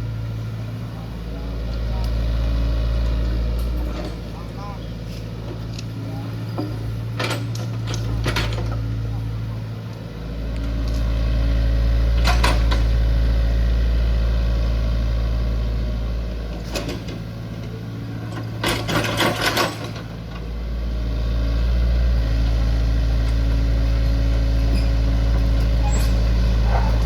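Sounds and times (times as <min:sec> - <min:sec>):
heavy machine engine humming: 0:00.0 - 0:27.0.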